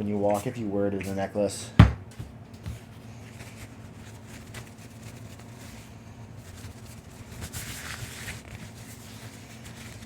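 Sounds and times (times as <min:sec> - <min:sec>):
soft rustling and rubbing: 0:00.0 - 0:01.3, 0:02.2 - 0:10.0.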